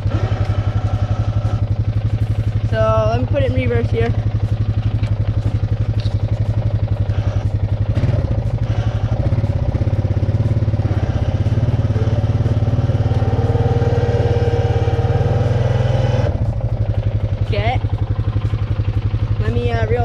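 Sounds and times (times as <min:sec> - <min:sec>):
quad bike engine under load: 0:00.0 - 0:20.0
steady whine: 0:00.0 - 0:20.0.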